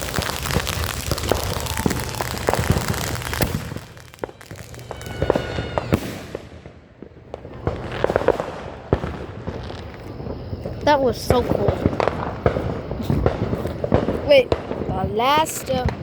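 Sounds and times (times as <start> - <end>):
firework whistle: 0.0 - 16.0
fireworks bangs: 0.0 - 16.0
fireworks popping: 0.0 - 16.0.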